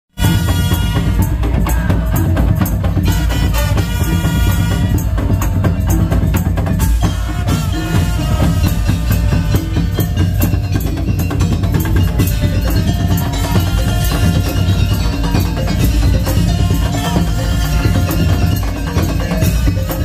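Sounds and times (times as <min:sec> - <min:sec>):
drums and slit drums playing: 0:00.1 - 0:20.0
pitched melody line: 0:00.2 - 0:20.0.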